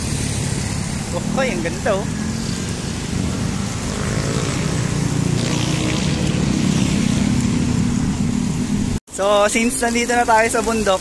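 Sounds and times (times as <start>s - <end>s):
stream running over rocks: 0.0s - 11.0s
water spouting from hose: 0.0s - 11.0s.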